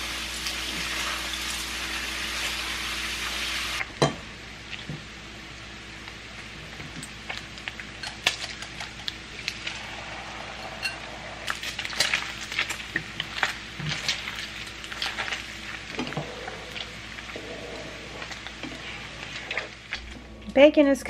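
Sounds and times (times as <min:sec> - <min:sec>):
bacon sizzling and popping: 0:00.0 - 0:20.1.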